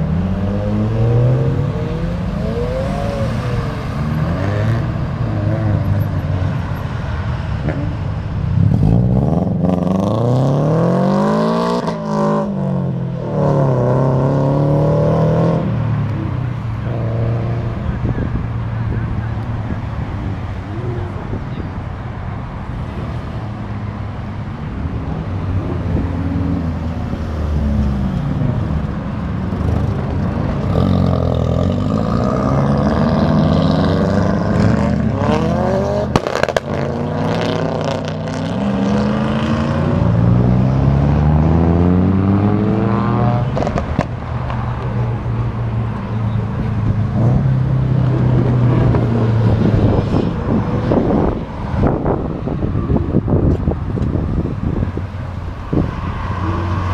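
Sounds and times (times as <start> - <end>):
car engines accelerating: 0.0 - 56.9.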